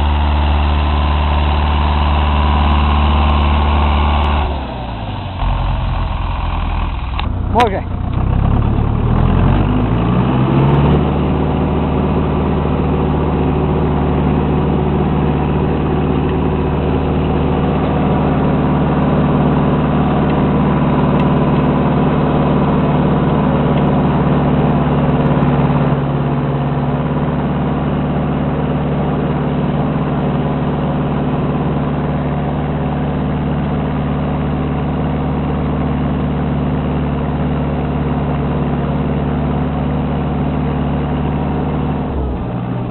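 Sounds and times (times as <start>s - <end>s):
tractor diesel engine revving: 0.0s - 42.9s.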